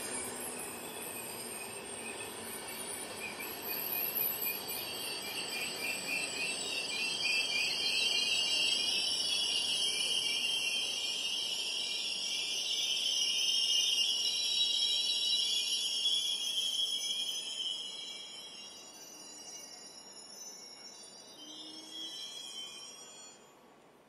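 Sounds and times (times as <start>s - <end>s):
train brakes squealing: 0.0s - 24.0s.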